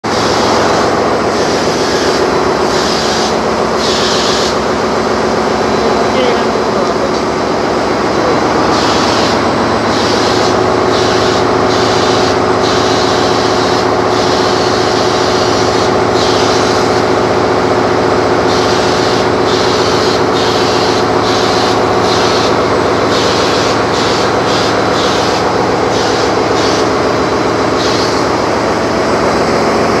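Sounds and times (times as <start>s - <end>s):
engine room machinery drone: 0.0s - 30.0s
spray gun hissing: 0.1s - 4.9s, 7.8s - 28.6s.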